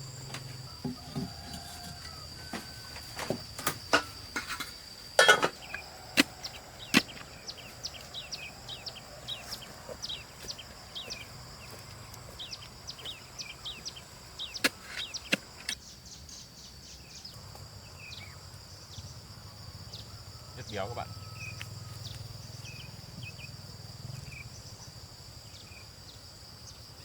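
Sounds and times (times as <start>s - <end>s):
high insect trill: 0.0s - 27.0s.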